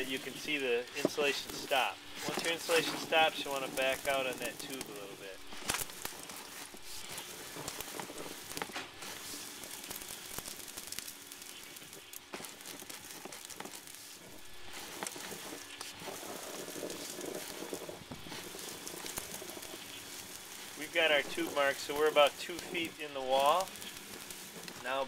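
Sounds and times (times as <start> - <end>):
insulation blowing through tube: 0.0 - 25.0.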